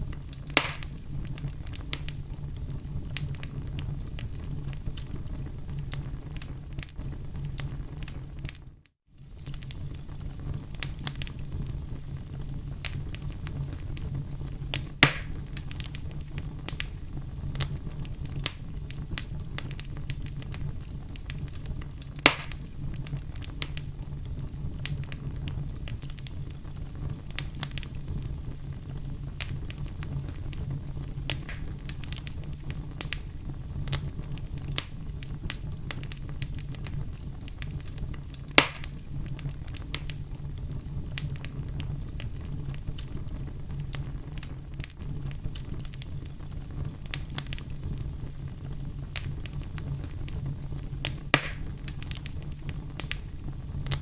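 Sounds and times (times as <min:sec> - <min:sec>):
fire crackling: 0:00.0 - 0:54.0
fire flames rumbling: 0:00.0 - 0:54.0
sharp pops from fire: 0:00.0 - 0:54.0.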